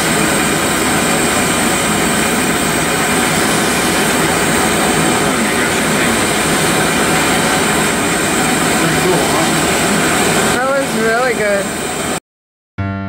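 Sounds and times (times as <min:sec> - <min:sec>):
torch flame hissing: 0:00.0 - 0:12.2.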